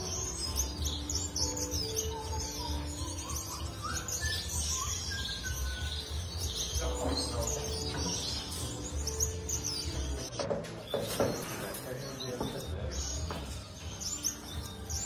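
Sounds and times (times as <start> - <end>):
high chirps like birdsong: 0.0 - 15.0.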